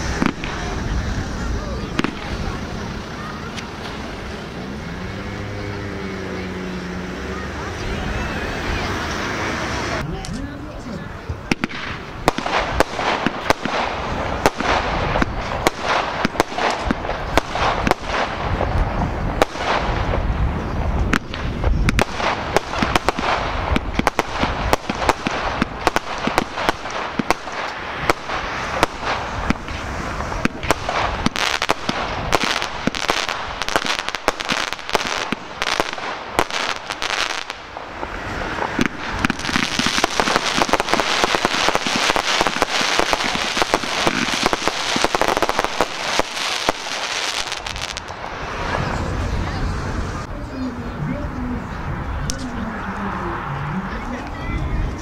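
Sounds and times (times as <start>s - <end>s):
deep rumble of heavier reports: 0.0s - 55.0s
fireworks bangs and crackles: 0.0s - 55.0s.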